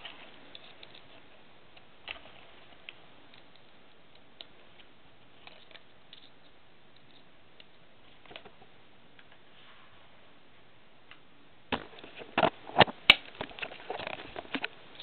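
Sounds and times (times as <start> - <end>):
clicks and rustles of handling: 0.0 - 9.4, 11.8 - 15.0.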